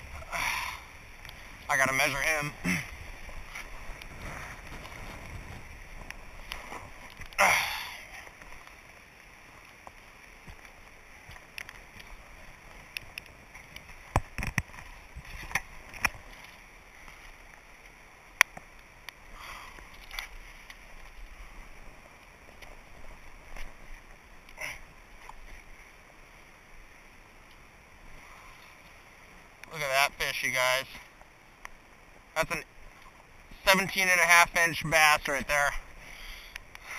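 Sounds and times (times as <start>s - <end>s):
faint outdoor background noise: 0.0s - 36.9s.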